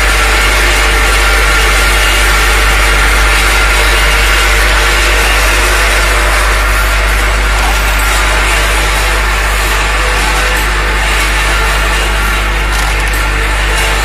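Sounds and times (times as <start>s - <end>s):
low machine hum: 0.0s - 14.0s
packing machine running: 0.0s - 14.0s.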